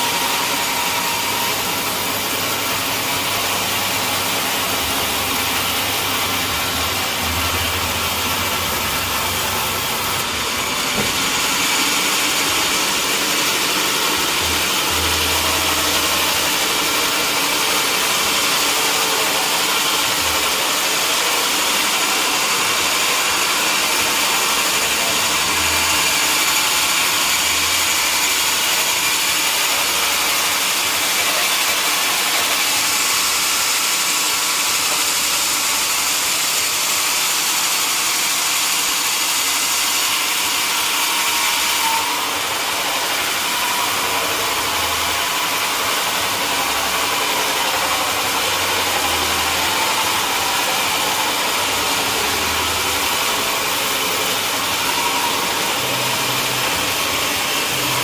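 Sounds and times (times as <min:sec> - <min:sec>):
sawmill machinery hissing: 0:00.0 - 0:58.0.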